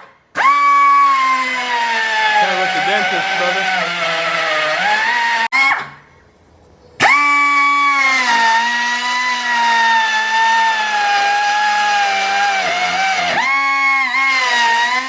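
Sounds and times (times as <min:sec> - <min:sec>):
rotary power tool whining: 0:00.0 - 0:06.0, 0:07.0 - 0:15.0.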